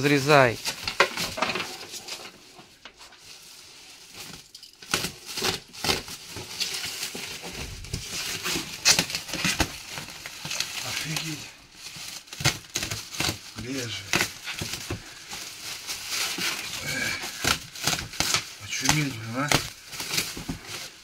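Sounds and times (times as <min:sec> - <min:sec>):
packaging crinkling and tearing: 0:00.0 - 0:21.0.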